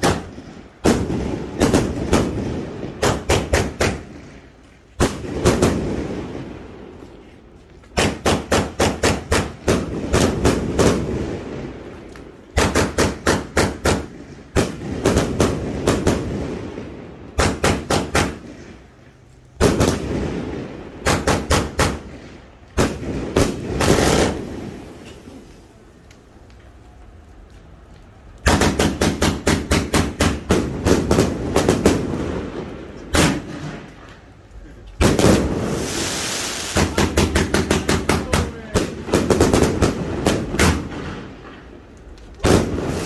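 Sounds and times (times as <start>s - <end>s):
firework cake shots: 0.0s - 6.4s, 7.9s - 16.6s, 17.4s - 19.0s, 19.6s - 26.5s, 28.2s - 43.0s.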